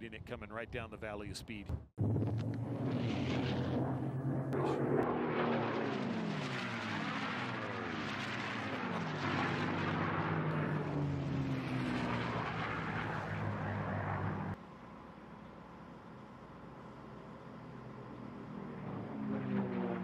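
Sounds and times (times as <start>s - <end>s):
propeller plane engine passing: 2.0s - 20.0s.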